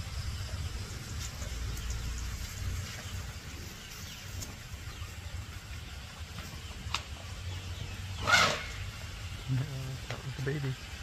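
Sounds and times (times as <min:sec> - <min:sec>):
faint bird calls: 0:00.5 - 0:09.7.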